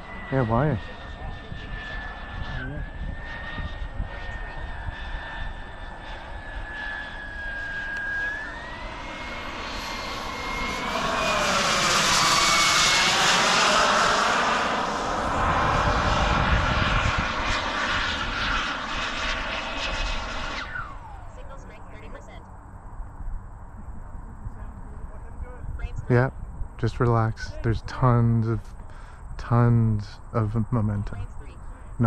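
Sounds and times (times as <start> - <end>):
model jet turbine whine: 0.0 - 32.0.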